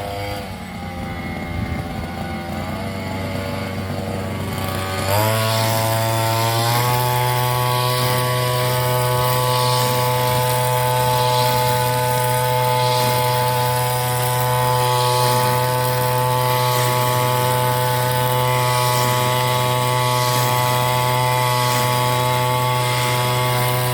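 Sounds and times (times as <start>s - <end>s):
brush cutter engine revving: 0.0s - 23.9s.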